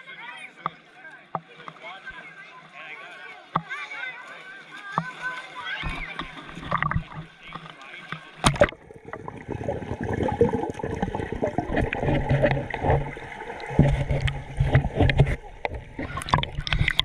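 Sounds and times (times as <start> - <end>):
water splashing and gurgling: 0.0 - 17.0.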